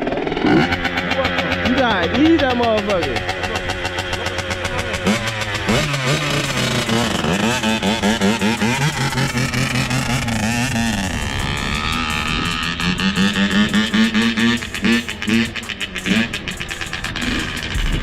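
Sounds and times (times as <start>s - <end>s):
two-stroke motorbike engine revving: 0.0s - 18.0s.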